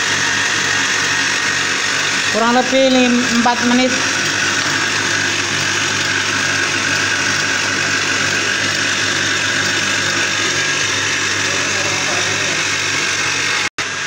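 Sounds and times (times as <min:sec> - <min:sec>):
stand mixer whisking: 0:00.0 - 0:14.0.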